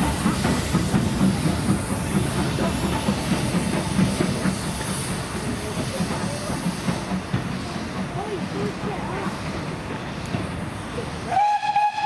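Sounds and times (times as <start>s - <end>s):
locomotive wheels clattering: 0.0s - 11.2s
steam hissing: 0.0s - 12.0s.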